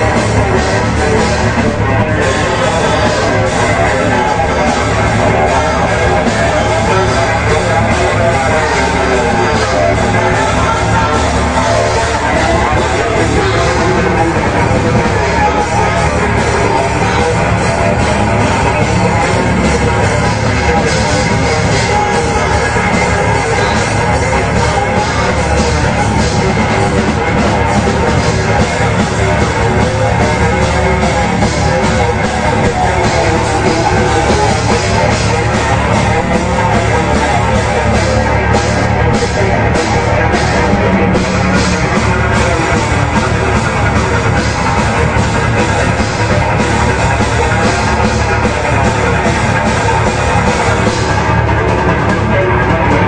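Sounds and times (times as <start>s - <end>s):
bass guitar: 0.0s - 53.0s
distorted electric guitar: 0.0s - 53.0s
drum kit: 0.0s - 53.0s.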